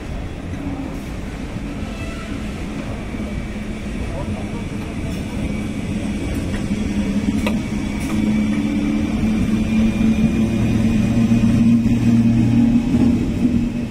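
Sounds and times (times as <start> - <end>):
electric train hum: 0.0 - 13.9
train wheels rumbling on rail: 0.0 - 13.9.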